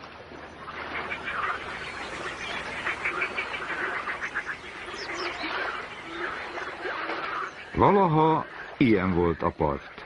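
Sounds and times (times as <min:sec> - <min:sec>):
small waves lapping: 0:00.0 - 0:10.0
birds chattering: 0:00.6 - 0:10.0.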